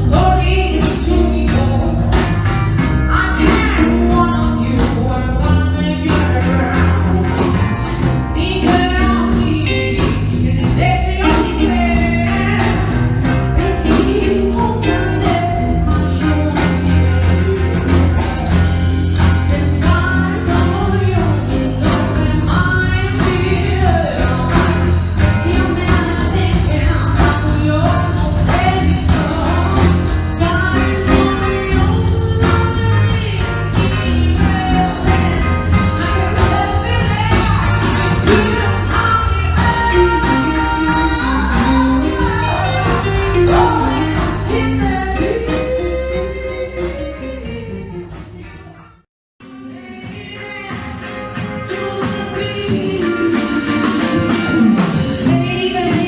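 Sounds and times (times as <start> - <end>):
bass and drums: 0.0 - 56.0
song with sung vocals: 0.0 - 56.0.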